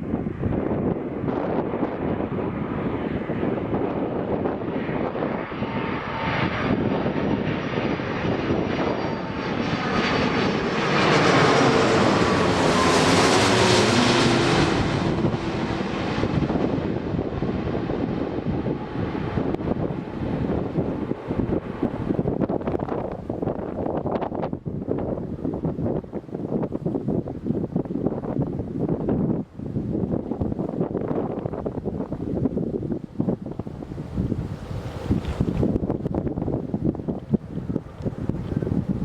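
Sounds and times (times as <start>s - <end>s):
jet airliner passing: 0.0s - 39.0s.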